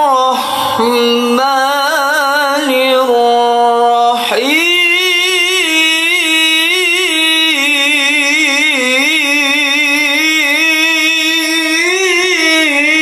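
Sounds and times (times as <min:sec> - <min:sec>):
man reciting melodically into microphone: 0:00.0 - 0:13.0.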